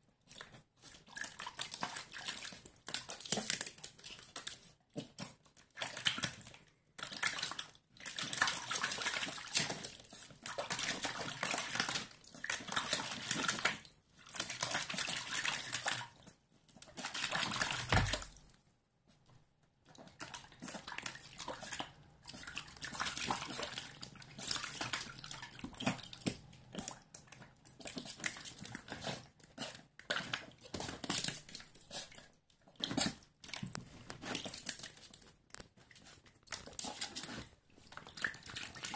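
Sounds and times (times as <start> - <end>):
puppy splashing in water: 0.2 - 18.6, 19.8 - 38.9.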